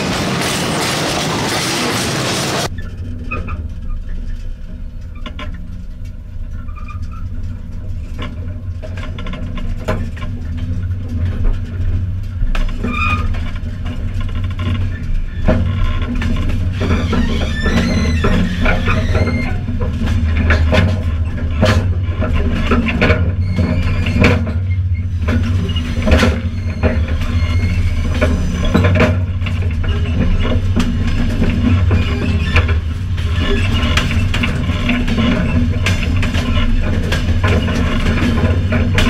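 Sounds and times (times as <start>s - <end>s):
railcar wheels rumbling on rails: 0.0s - 39.0s
wheels knocking and clanking: 0.0s - 39.0s.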